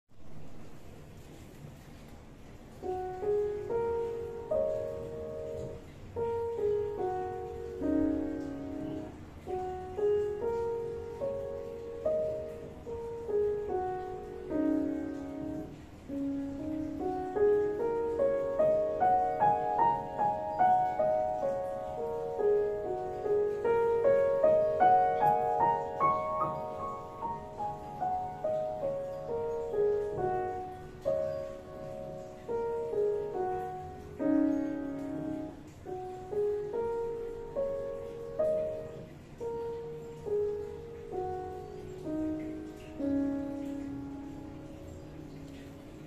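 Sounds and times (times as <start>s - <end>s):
upright piano melody: 0.1s - 46.0s.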